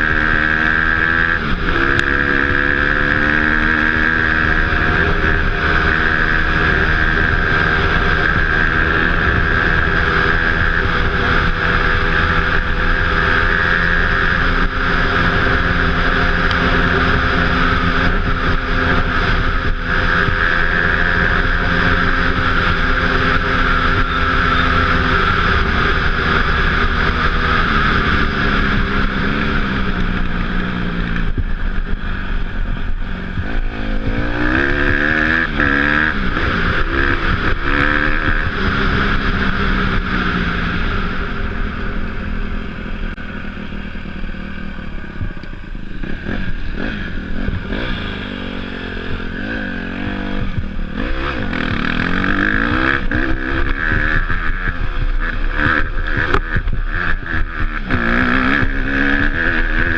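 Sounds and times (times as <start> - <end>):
dirt bike engine revving: 0.0 - 59.9
wind rushing over microphone: 0.0 - 59.9.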